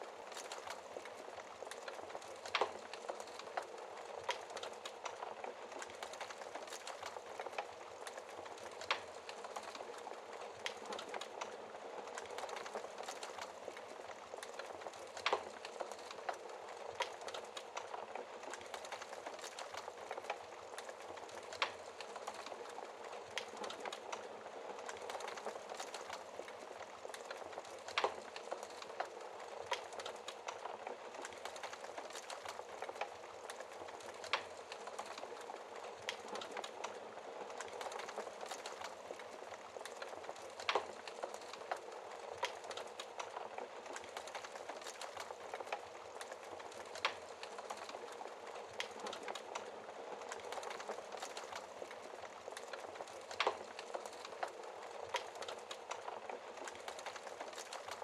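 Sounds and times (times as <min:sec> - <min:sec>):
fire snapping and popping: 0:00.0 - 0:58.0
wood fire crackling: 0:00.0 - 0:58.0.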